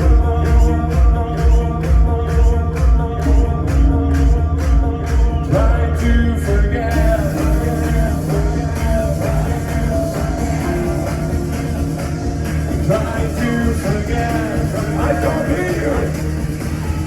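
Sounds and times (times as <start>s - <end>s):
kick drum pulsing: 0.0s - 17.0s
live band playing synth-pop: 0.0s - 17.0s
person singing: 0.0s - 17.0s.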